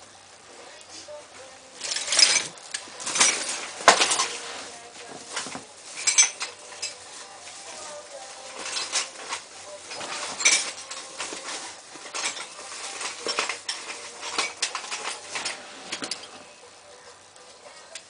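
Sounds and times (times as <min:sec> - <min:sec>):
metal tools clinking and scraping: 0:01.8 - 0:16.5.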